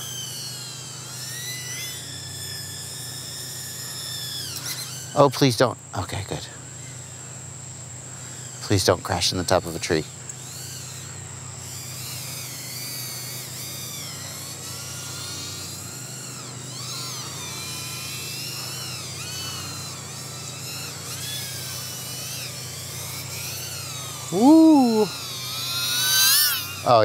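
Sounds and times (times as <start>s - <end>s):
drone motors whining: 0.0s - 27.0s
steady low hum: 0.0s - 27.0s.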